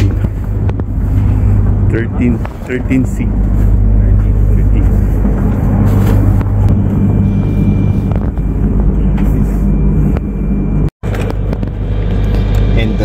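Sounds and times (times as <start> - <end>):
train carriage hum and rumble: 0.0 - 13.0.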